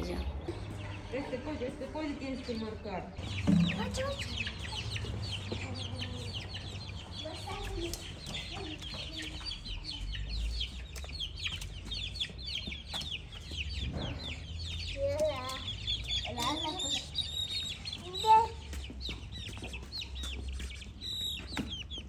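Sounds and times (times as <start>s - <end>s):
chicks peeping: 0.0s - 22.0s
hen clucking: 0.5s - 22.0s.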